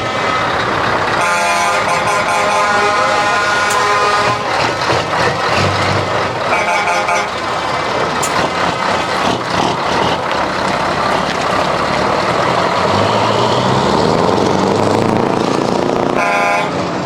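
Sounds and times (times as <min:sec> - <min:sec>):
heavy truck engines running: 0:00.0 - 0:17.0.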